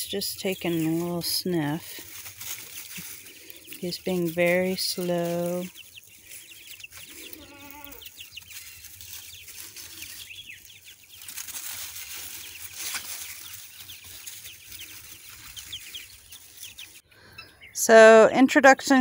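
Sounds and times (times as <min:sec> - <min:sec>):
rustling in dry leaves: 0:00.0 - 0:17.0
baby chicks peeping: 0:00.0 - 0:19.0.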